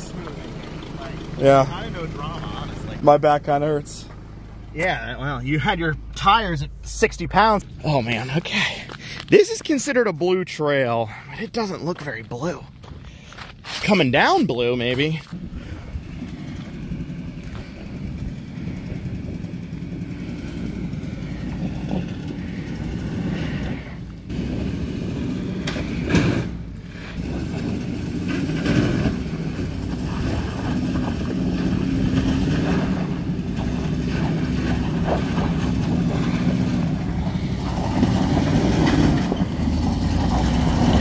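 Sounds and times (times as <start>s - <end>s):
suv engines climbing: 0.0s - 41.0s.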